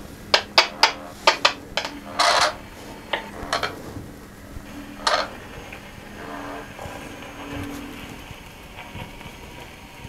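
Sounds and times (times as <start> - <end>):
low electrical hum: 0.0 - 10.0
sharp electrical clicks: 0.0 - 10.0
static crackle: 0.0 - 10.0.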